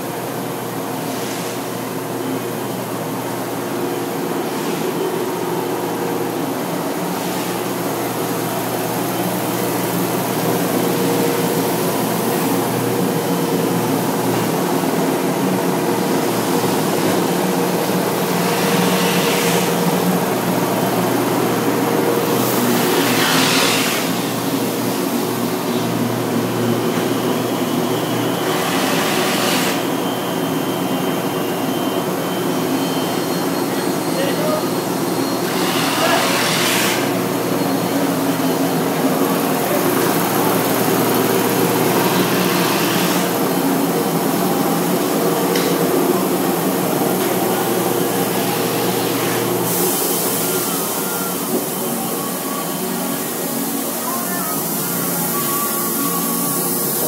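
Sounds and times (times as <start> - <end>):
woodworking machinery humming: 1.8 - 57.0.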